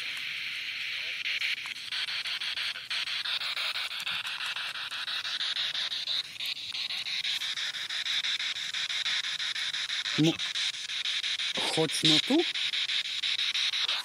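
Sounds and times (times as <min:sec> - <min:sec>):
pulsing radio static: 0:00.0 - 0:14.0.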